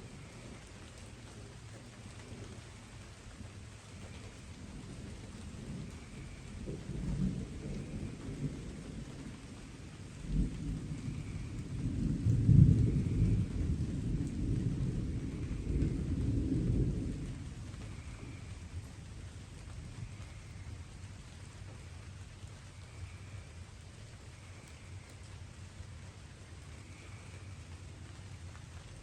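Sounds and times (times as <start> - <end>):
distant thunder rumbling: 0.0 - 29.0
light rain: 0.0 - 29.0.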